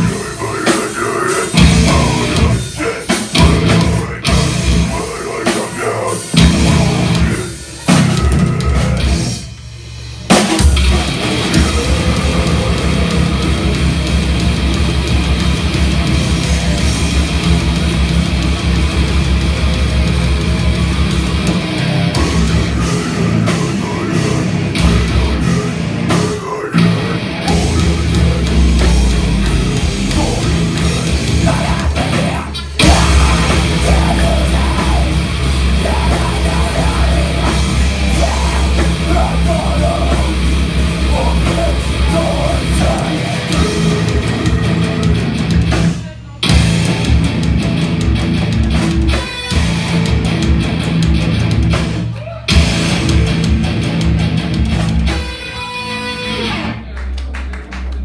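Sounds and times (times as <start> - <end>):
metal band playing: 0.0 - 58.0.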